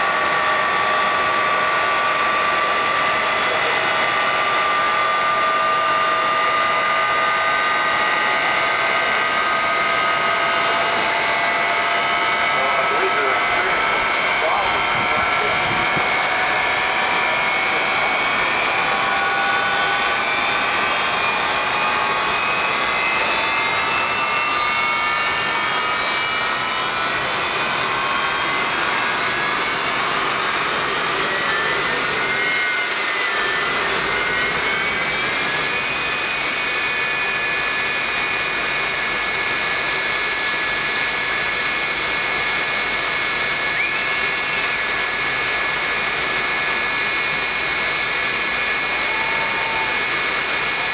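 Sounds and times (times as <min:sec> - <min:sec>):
jet engine roaring: 0:00.0 - 0:50.9
turbine whine: 0:00.0 - 0:50.9.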